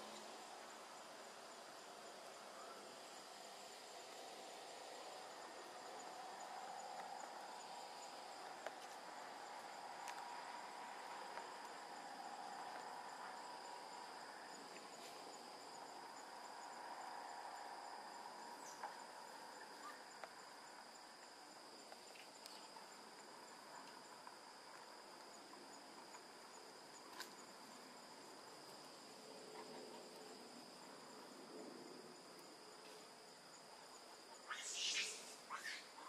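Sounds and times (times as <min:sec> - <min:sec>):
insect whine: 0:00.0 - 0:36.0.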